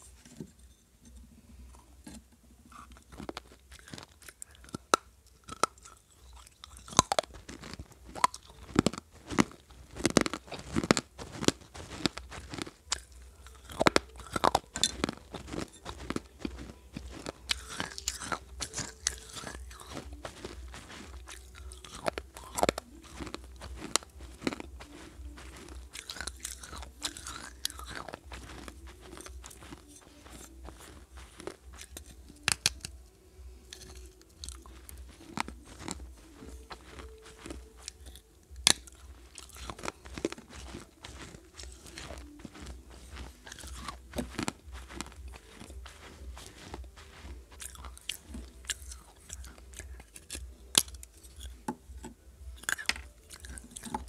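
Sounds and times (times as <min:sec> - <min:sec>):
steady low hum: 0:00.0 - 0:54.0
clay pieces crunched by chewing: 0:02.8 - 0:54.0.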